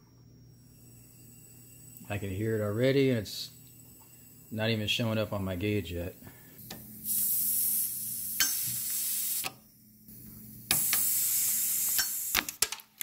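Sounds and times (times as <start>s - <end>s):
gas hissing from valve: 0.7s - 9.7s, 10.6s - 12.6s.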